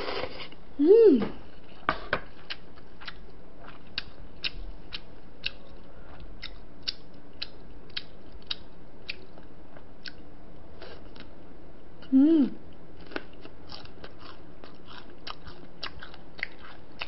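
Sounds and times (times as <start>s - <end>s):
person chewing food: 1.6s - 11.3s, 13.0s - 17.0s.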